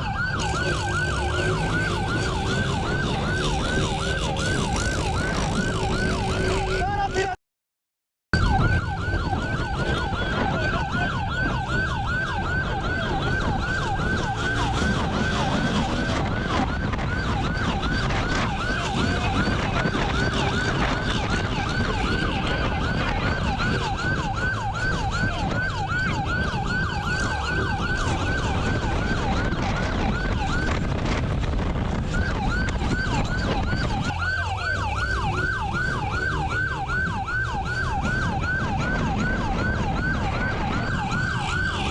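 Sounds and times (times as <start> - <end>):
police siren yelping: 0.0 - 7.2, 8.4 - 41.9
moving vehicle rumble: 0.0 - 7.4, 8.4 - 41.9.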